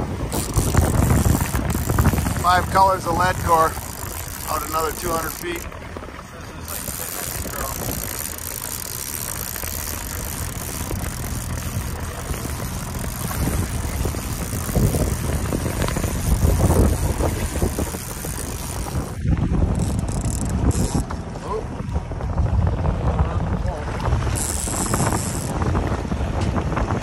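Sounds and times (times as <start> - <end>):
outboard motor running: 0.0 - 27.0
water rushing past boat: 0.0 - 27.0
wind on microphone: 0.0 - 27.0.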